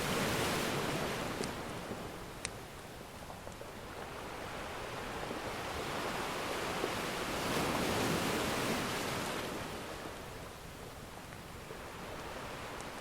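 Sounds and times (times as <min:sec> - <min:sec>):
ocean wave washing: 0:00.0 - 0:13.0.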